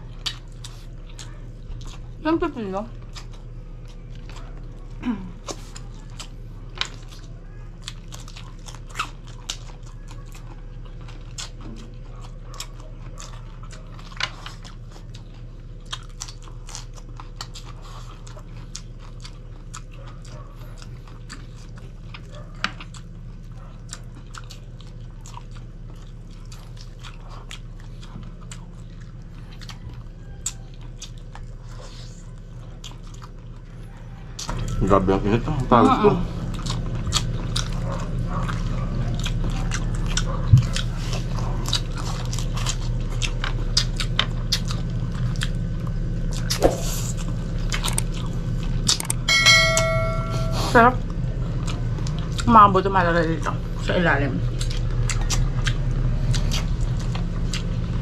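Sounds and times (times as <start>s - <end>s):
chewing and crunching: 0.0s - 58.0s
steady low hum: 0.0s - 58.0s.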